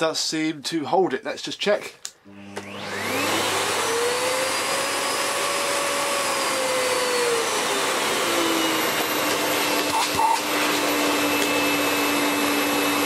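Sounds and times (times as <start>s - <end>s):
vacuum cleaner motor whine: 2.3s - 13.0s.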